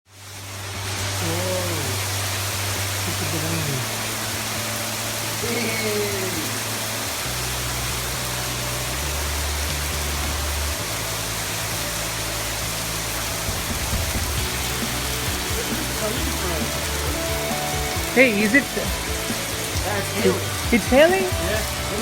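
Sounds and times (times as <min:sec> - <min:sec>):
hail and rain pelting: 0:00.1 - 0:22.0.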